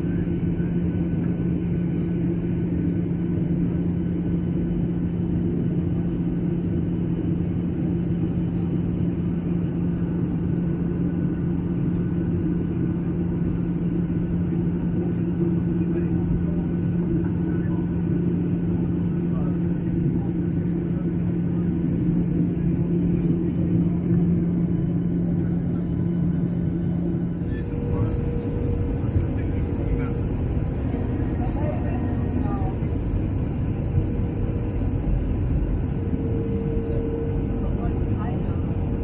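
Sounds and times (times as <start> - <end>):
jet airliner cabin rumble: 0.0 - 39.0.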